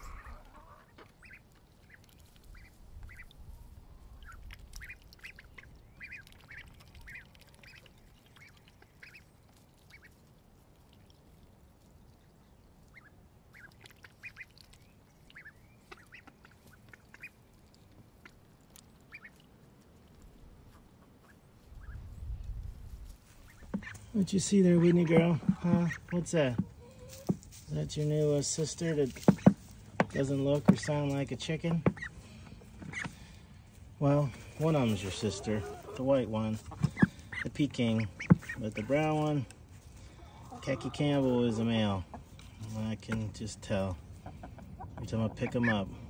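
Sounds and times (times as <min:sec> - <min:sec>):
ducklings peeping: 0:00.0 - 0:46.0.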